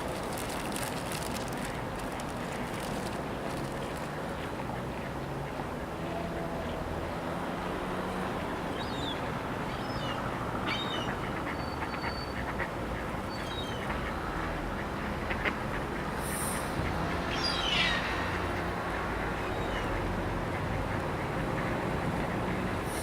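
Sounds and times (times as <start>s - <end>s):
waterbirds calling: 0.0s - 23.0s.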